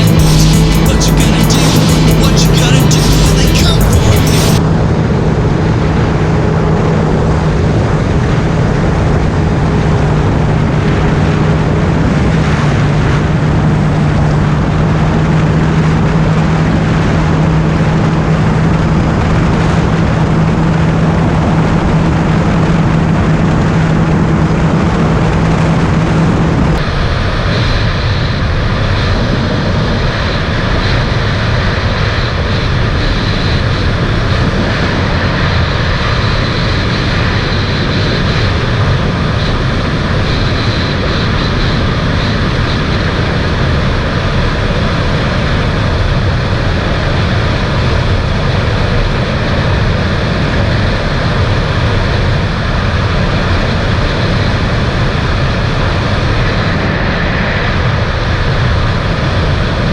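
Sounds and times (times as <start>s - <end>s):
jet ski engine drone: 0.0s - 59.9s
wind noise: 4.6s - 59.9s.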